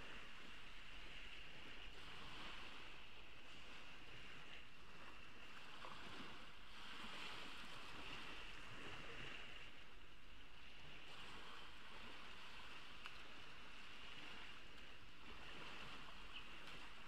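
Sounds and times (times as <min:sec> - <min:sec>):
ocean waves on a beach: 0:00.0 - 0:17.0.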